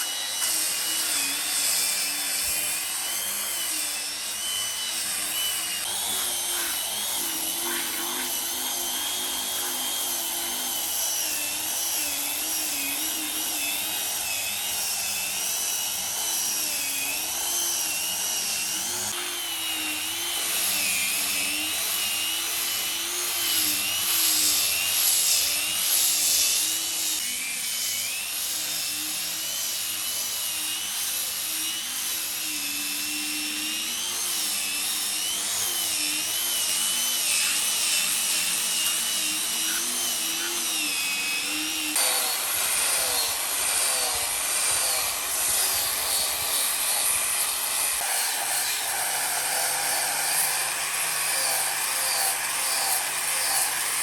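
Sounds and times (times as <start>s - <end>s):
electric power tool on wood: 0.0s - 54.0s.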